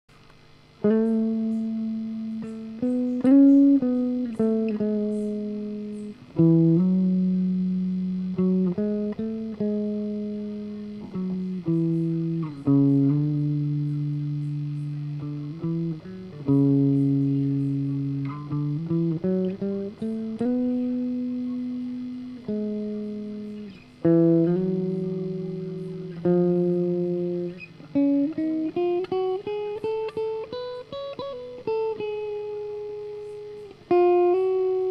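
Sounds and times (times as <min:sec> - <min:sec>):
solo guitar melody: 0:00.2 - 0:34.9.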